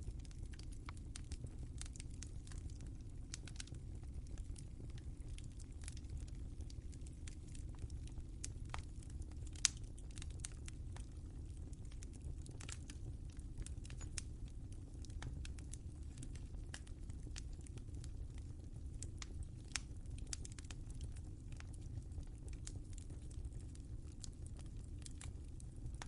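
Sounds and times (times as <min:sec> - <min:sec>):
low rumble of flame: 0:00.0 - 0:26.0
wood fire snapping and popping: 0:00.0 - 0:26.0.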